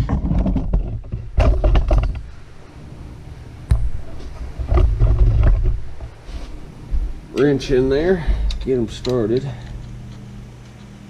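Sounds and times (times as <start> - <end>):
low rumbling and clunking: 0.0 - 11.0.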